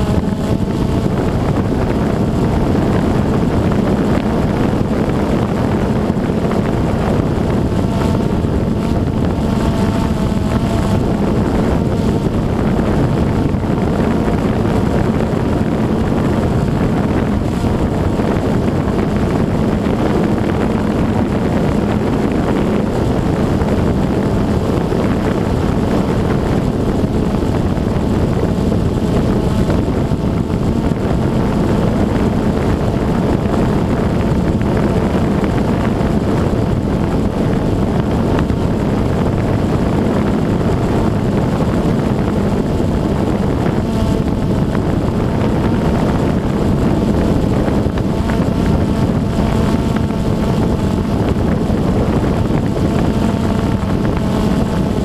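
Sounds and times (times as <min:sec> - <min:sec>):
drone propellers buzzing: 0:00.0 - 0:55.0
wind noise on microphone: 0:00.0 - 0:55.0.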